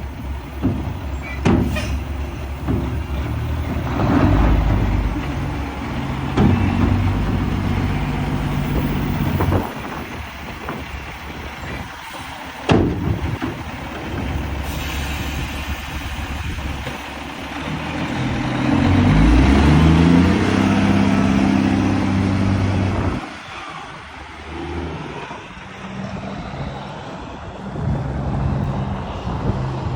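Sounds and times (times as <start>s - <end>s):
dump truck diesel engine: 0.0s - 29.9s.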